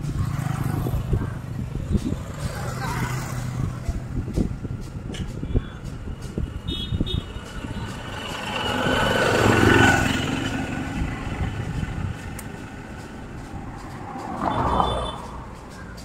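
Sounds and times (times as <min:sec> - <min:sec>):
steady traffic noise: 0:00.0 - 0:16.0
vehicle passing: 0:00.0 - 0:16.0.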